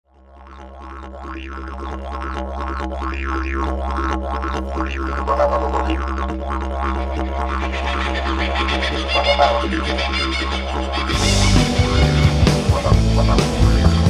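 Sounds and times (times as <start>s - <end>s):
didgeridoo drone: 0.2s - 14.0s.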